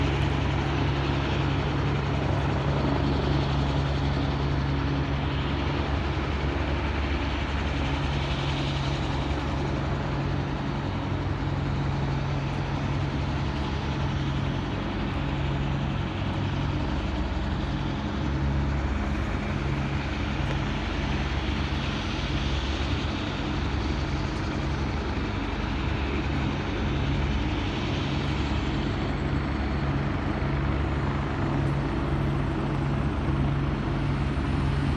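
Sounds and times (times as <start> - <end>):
helicopter rotor beating: 0.0 - 34.9.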